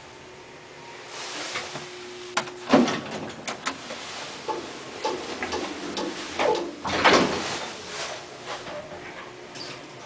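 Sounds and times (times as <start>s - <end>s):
elevator low hum: 0.0s - 10.0s.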